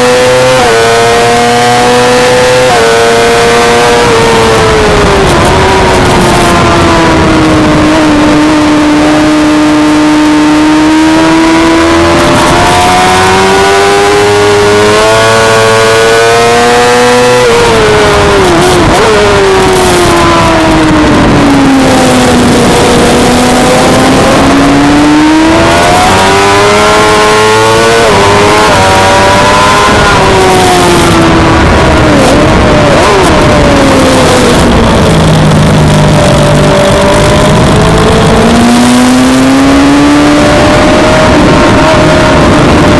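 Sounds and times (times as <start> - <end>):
motorcycle engine at high revs: 0.0 - 42.9
wind rush: 0.0 - 42.9.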